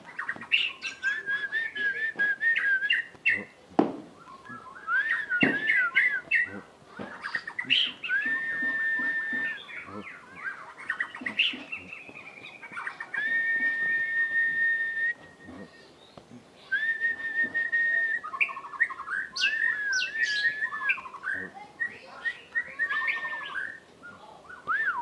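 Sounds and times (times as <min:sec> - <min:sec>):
bird singing whistles and chips: 0:00.1 - 0:03.5, 0:04.2 - 0:16.1, 0:16.7 - 0:25.0.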